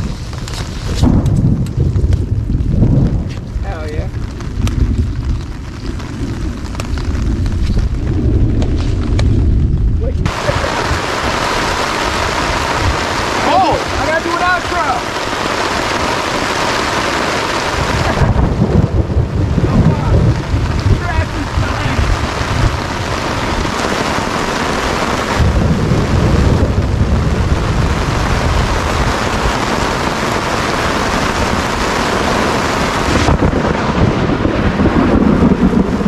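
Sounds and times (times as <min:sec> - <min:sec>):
deep thunder rumbling: 0:00.0 - 0:36.0
heavy rain pouring: 0:00.0 - 0:36.0.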